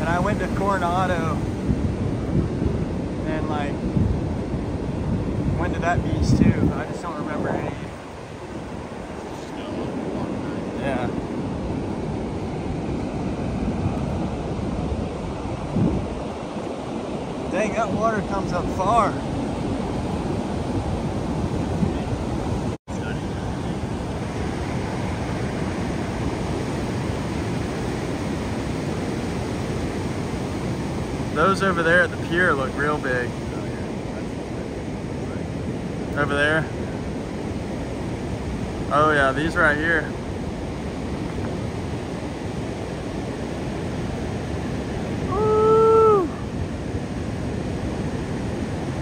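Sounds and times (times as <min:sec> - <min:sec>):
ocean waves breaking on beach: 0:00.0 - 0:49.0.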